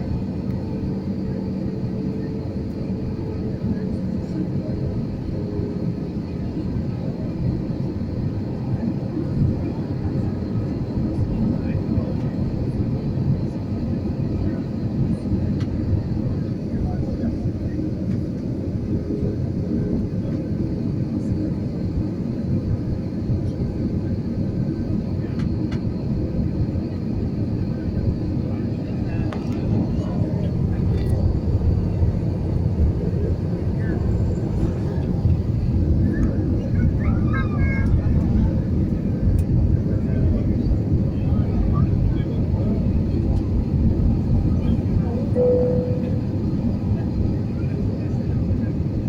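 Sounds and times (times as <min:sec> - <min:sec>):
airliner low rumble: 0:00.0 - 0:49.0.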